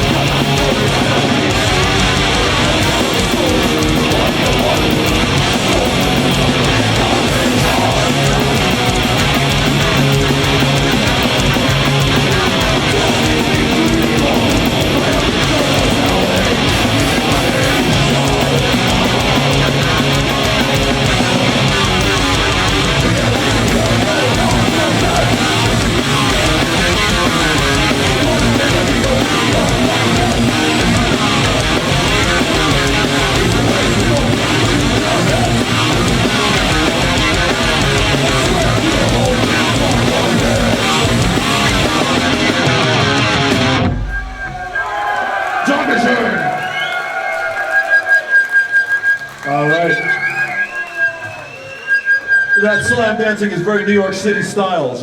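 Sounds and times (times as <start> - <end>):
heavy drumming: 0.0 - 47.6
distorted electric guitars: 0.0 - 55.0.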